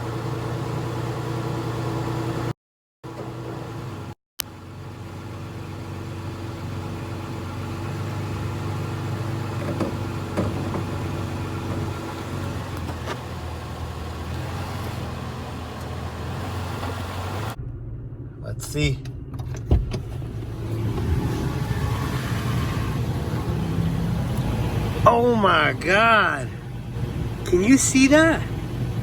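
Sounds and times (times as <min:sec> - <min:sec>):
truck engine running: 0:03.3 - 0:29.0.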